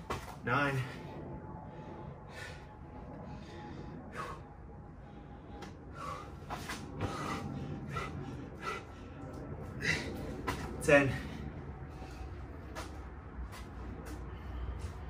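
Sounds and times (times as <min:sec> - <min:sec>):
man breathing hard: 0:00.7 - 0:12.9, 0:14.1 - 0:15.0.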